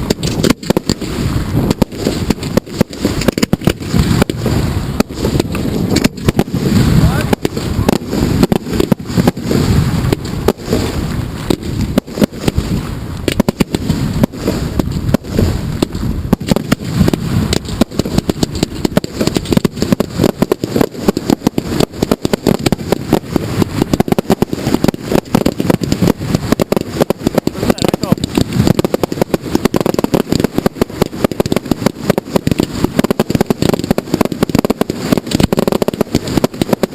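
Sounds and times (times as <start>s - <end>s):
fireworks launching and bursting: 0.0s - 36.9s.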